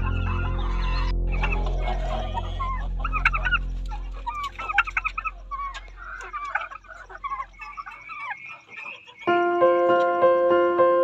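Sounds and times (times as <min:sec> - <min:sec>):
chicks chirping and clucking: 0:00.0 - 0:10.5.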